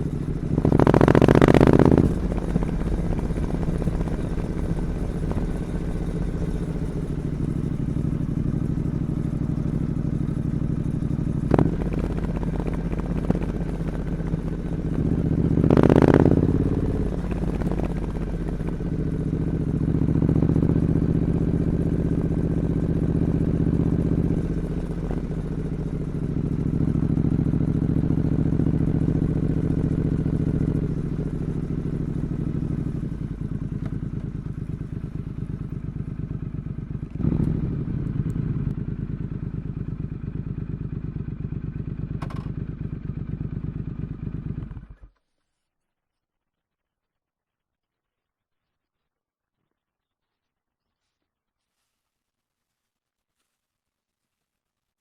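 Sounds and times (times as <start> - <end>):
motorcycle engine running: 0.0 - 45.2.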